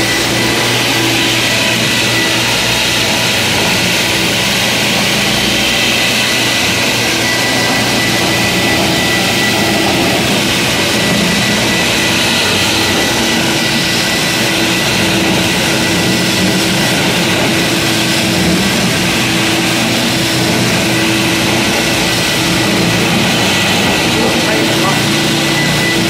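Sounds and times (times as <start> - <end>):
dust extraction vacuum: 0.0 - 26.0
electric floor grinder grinding: 0.0 - 26.0.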